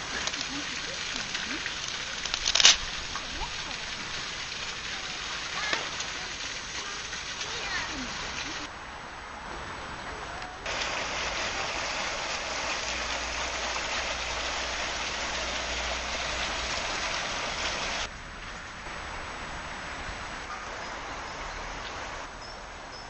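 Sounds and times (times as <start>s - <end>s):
rushing water hiss: 0.0s - 8.8s, 9.4s - 23.0s.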